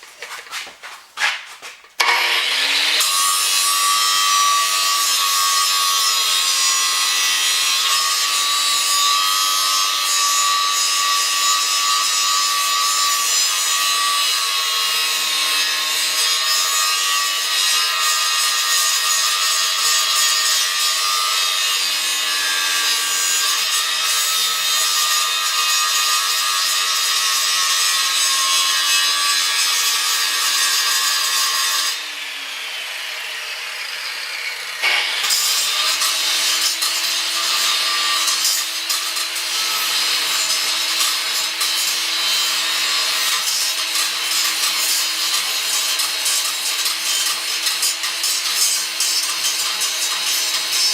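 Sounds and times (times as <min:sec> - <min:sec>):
angle grinder grinding metal: 0:02.0 - 0:50.9.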